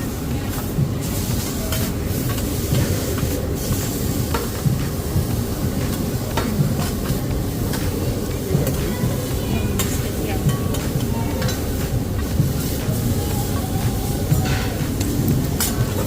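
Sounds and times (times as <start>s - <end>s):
food sizzling on a griddle: 0.0s - 16.0s.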